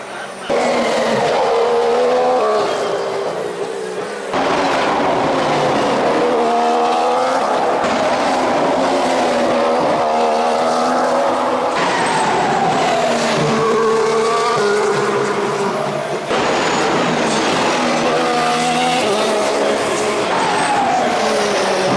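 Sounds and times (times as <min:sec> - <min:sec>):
racing car engine: 0:00.0 - 0:21.9.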